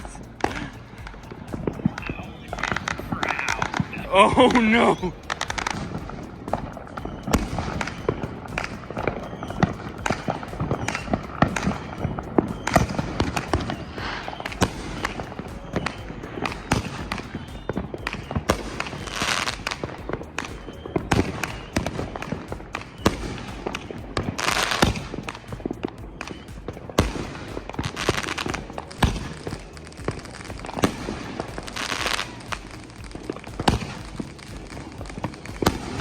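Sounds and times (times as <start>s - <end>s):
fireworks crackling and banging: 0.0s - 36.0s
fireworks hissing: 0.0s - 36.0s.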